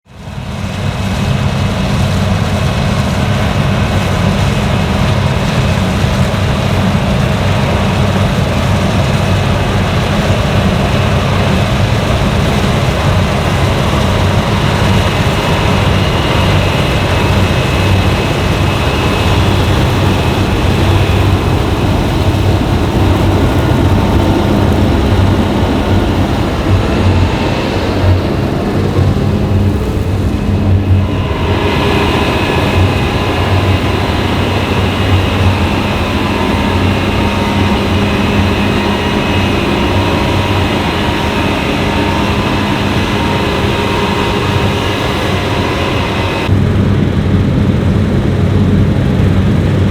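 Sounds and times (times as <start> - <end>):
combine harvester droning: 0.1 - 49.9.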